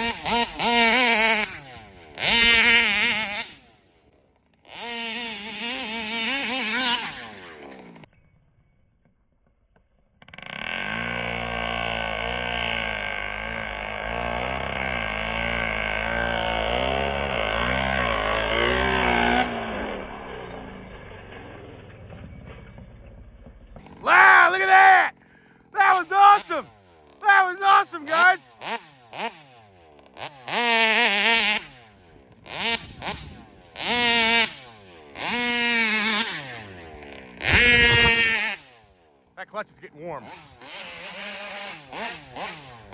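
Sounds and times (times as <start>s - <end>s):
two-stroke engine revving: 0.0s - 8.1s, 10.2s - 22.5s, 23.8s - 42.9s.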